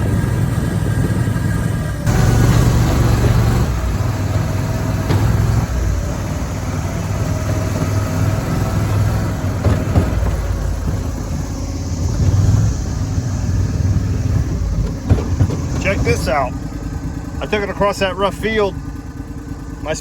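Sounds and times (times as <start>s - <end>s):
sharp knocks and rattles: 0.0s - 19.8s
utility vehicle engine running: 0.0s - 20.0s.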